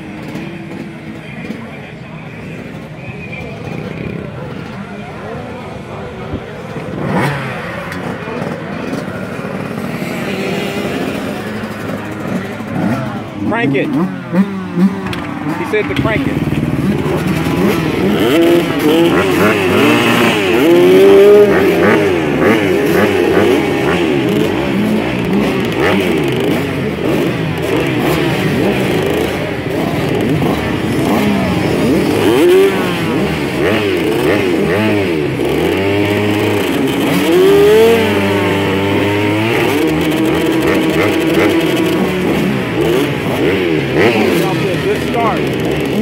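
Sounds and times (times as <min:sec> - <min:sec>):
motocross bikes revving: 0:00.0 - 0:46.0.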